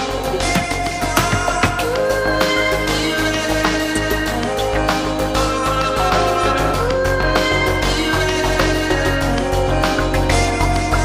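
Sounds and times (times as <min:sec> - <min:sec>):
song with drums and bass: 0:00.0 - 0:11.0.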